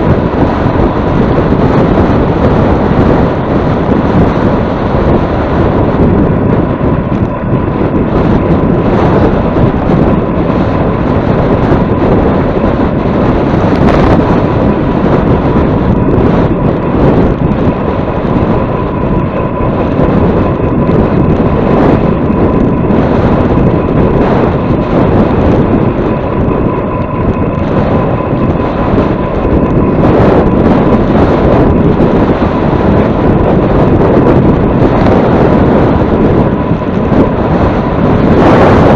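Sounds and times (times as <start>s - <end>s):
thin steady whine: 0.0s - 38.9s
wind buffeting microphone: 0.0s - 38.9s.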